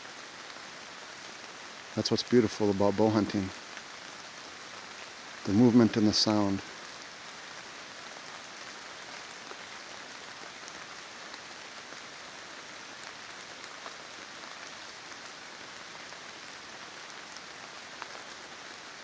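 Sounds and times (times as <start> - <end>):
rain on leaves: 0.0 - 19.0.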